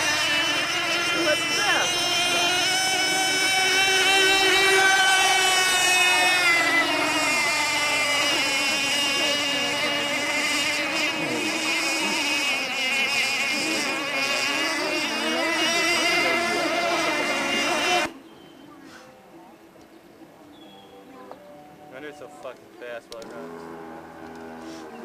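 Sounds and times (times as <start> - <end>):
model boat engines whining: 0.0 - 18.2, 21.6 - 25.0.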